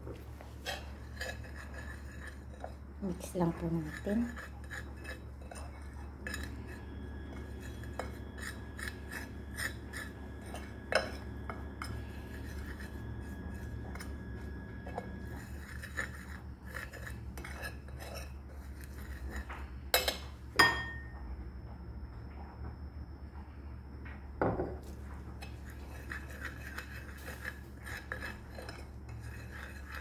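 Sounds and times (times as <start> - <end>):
low hum: 0.0 - 30.0
spoon scraping on ceramic plate: 0.6 - 21.0, 24.8 - 30.0.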